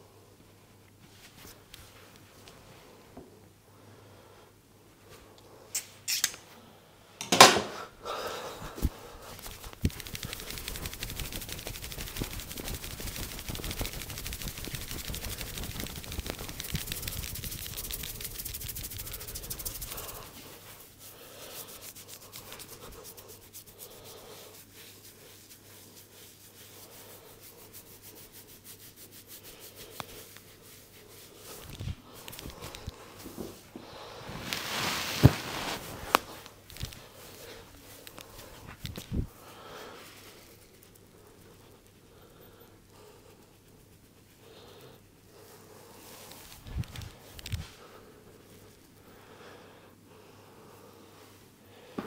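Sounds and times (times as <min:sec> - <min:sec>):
hands rubbing and tapping head: 0:07.2 - 0:49.1.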